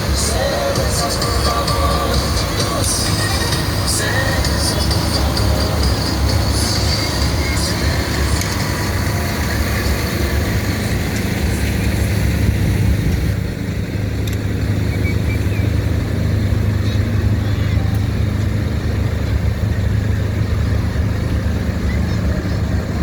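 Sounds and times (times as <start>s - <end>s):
tractor engines droning: 0.0s - 23.0s.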